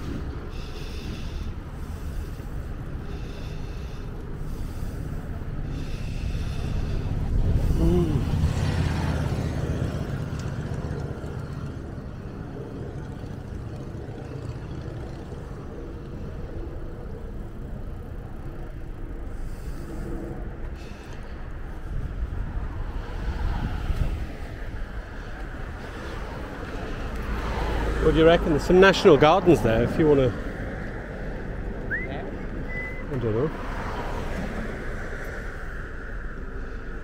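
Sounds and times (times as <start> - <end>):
low wind rumble: 0.0 - 37.0
road traffic: 0.0 - 37.0
vehicle passing: 0.0 - 37.0.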